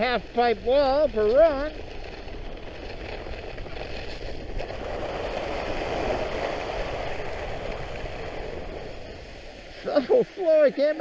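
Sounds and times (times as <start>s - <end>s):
ski blades sliding over snow: 0.0s - 11.0s.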